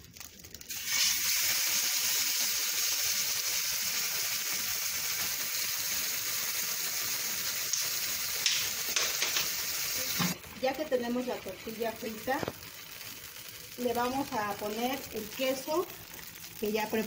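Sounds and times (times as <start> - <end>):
tortilla frying in hot oil: 0.0 - 17.0.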